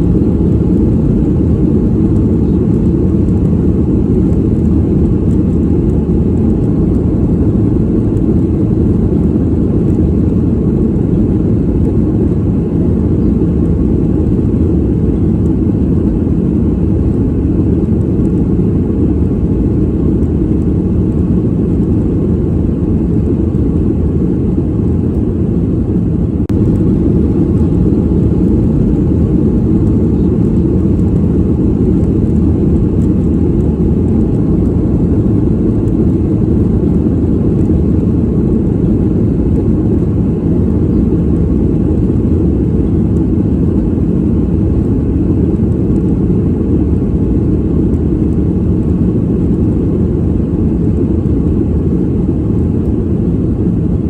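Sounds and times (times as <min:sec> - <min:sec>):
airplane cabin rumble in flight: 0:00.0 - 0:54.0.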